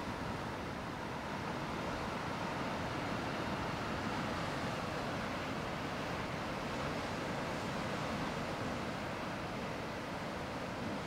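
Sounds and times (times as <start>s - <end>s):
surf washing around rocks: 0.0s - 11.0s.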